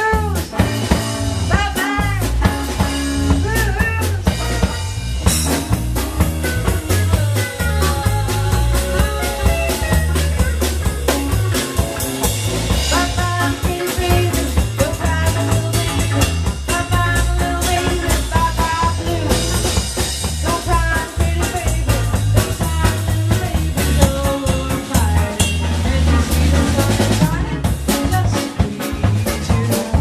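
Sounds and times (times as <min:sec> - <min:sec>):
drums: 0:00.0 - 0:30.0
melodic lead line: 0:00.0 - 0:30.0.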